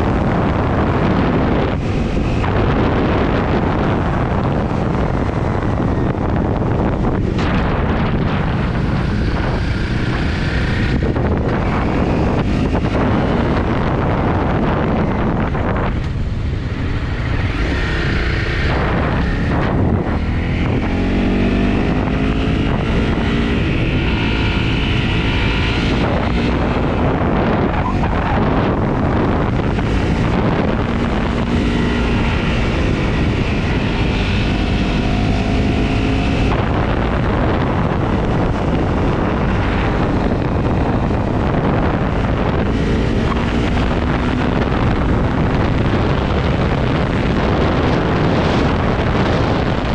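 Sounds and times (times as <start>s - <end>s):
motorcycle engine revving: 0.0s - 49.9s
wind noise on microphone: 0.0s - 49.9s.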